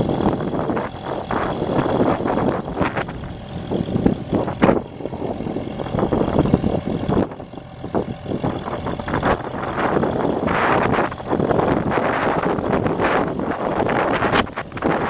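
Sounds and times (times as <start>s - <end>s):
diesel engine running: 0.0s - 15.0s
gusty noise: 0.0s - 15.0s.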